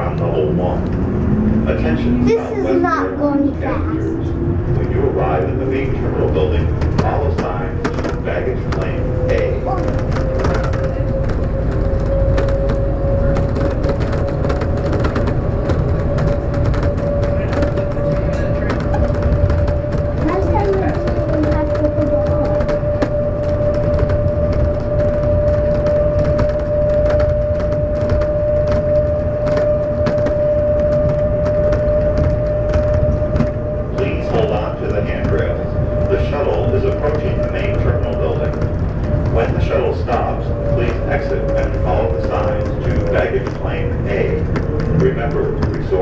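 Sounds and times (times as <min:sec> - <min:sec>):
train low rumble: 0:00.0 - 0:46.0.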